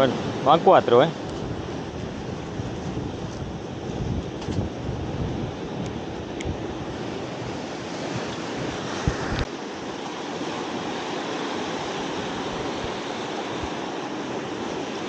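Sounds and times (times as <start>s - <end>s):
surf on rocky shore: 0.0s - 15.0s
wind rushing over microphone: 0.0s - 15.0s.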